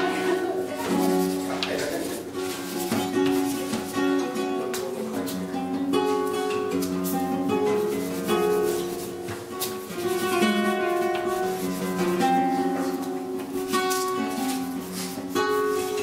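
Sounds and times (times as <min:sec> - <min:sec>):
acoustic guitar strumming and plucking: 0:00.0 - 0:16.0.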